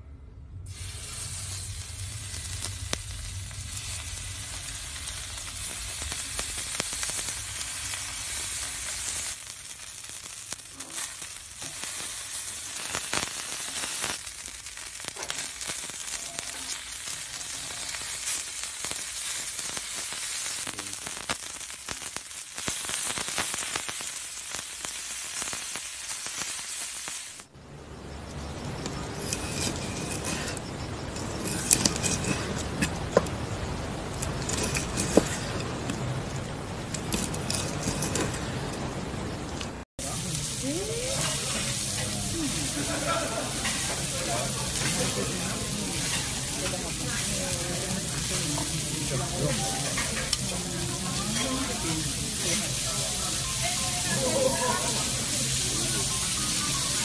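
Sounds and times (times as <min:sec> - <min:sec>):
beef sizzling on griddle: 0:00.7 - 0:27.5, 0:28.4 - 0:38.4, 0:40.0 - 0:57.0.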